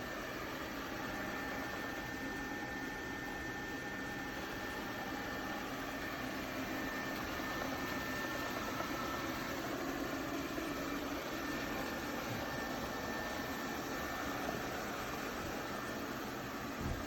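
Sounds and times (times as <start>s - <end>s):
robot vacuum whirring: 0.4s - 17.0s.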